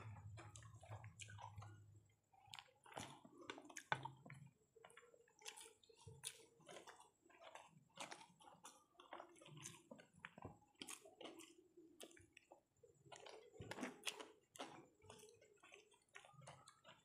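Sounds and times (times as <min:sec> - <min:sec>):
chewing: 0:00.0 - 0:17.0
fingers squishing rice: 0:00.0 - 0:17.0.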